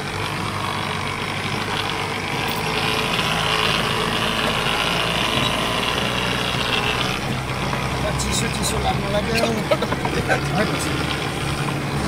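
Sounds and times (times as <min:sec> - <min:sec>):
truck engine running slowly: 0:00.0 - 0:12.0.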